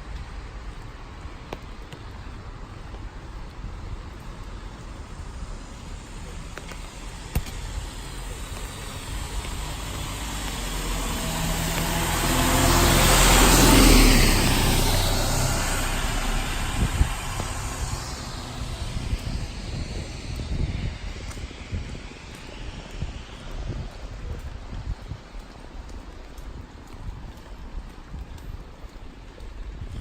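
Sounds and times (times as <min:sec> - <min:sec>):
tyre hiss on wet road: 0:00.0 - 0:30.0.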